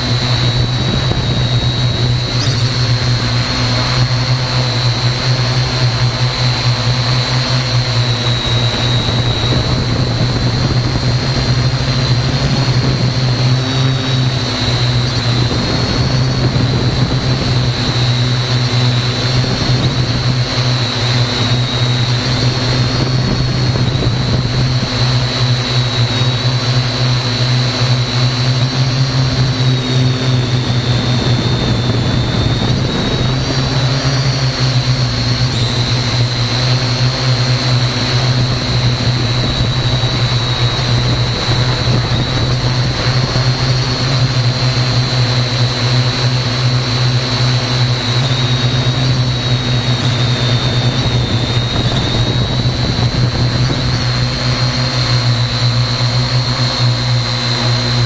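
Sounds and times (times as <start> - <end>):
drone motors whining: 0.0 - 58.0
low hum: 0.0 - 58.0.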